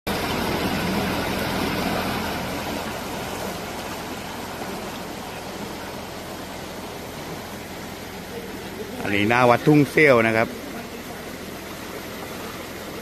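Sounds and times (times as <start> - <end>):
floodwater rushing: 0.1 - 13.0.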